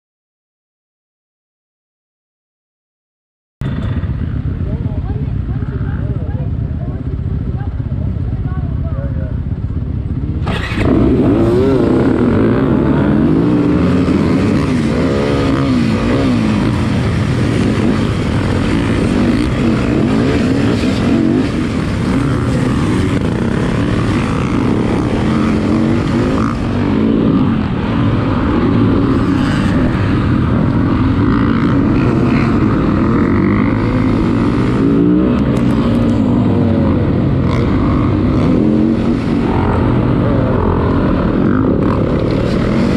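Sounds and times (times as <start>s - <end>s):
dirt bike engine accelerating: 3.6s - 42.9s
dirt bikes racing: 3.6s - 42.9s.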